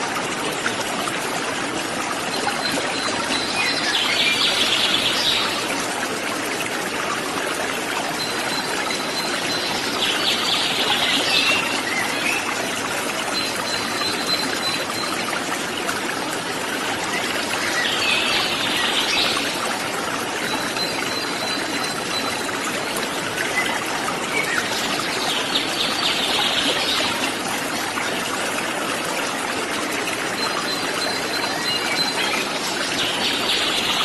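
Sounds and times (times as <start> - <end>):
waterfall running: 0.0 - 34.0.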